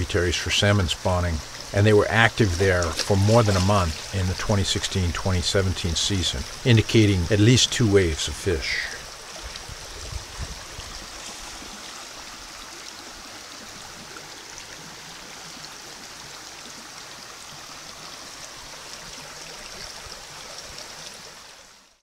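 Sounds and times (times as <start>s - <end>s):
shallow creek running: 0.0s - 22.0s.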